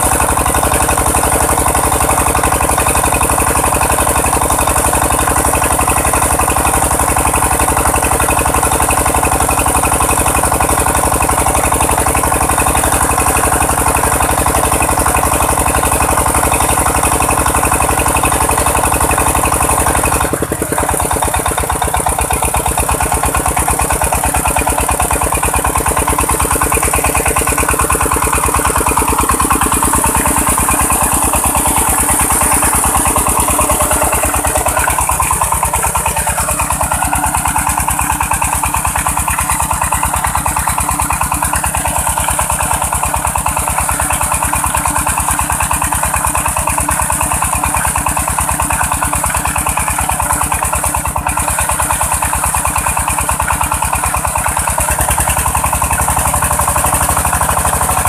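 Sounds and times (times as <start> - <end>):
single-cylinder engine running: 0.0 - 58.0
water spraying: 10.7 - 58.0.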